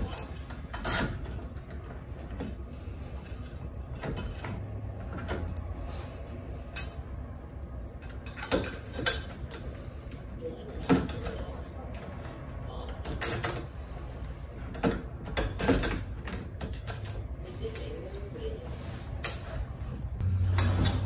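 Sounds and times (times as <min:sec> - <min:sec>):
clicks and knocks of lock parts: 0:00.0 - 0:07.2, 0:07.8 - 0:17.9.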